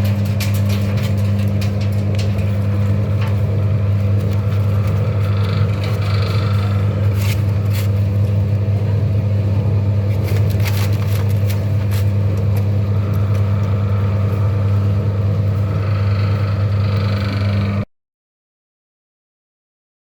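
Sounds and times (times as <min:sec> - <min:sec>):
machine humming: 0:00.0 - 0:17.9.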